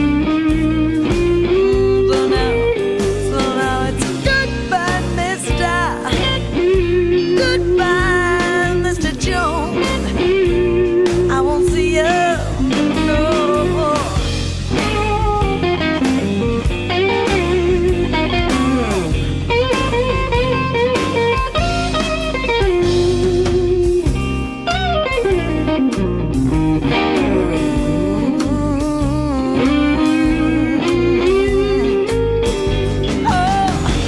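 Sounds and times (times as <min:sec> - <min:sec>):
blues-rock band playing: 0:00.0 - 0:34.0
electric lead guitar bent notes: 0:00.0 - 0:34.0.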